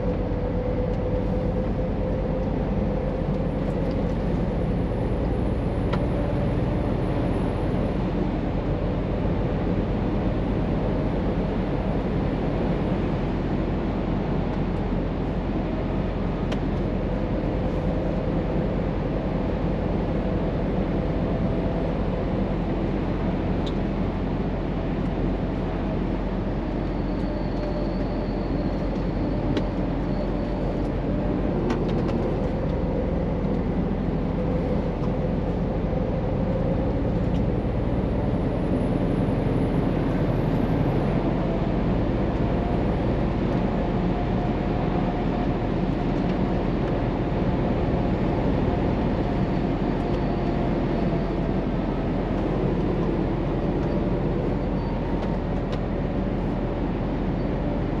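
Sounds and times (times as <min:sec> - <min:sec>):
truck diesel engine running: 0:00.0 - 0:58.0
tyre and road noise: 0:00.0 - 0:58.0.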